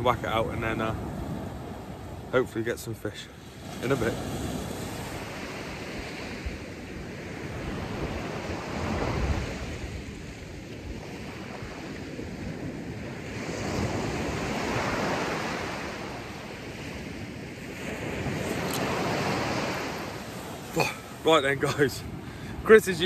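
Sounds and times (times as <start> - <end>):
surf washing onto shingle: 0.0 - 6.5, 7.2 - 23.0
wind buffeting microphone: 3.6 - 23.0.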